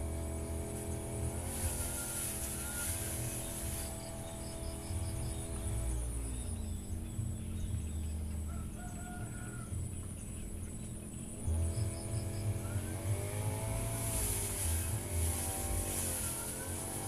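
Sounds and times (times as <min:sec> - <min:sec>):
brush cutter engine revving: 0:00.0 - 0:17.0.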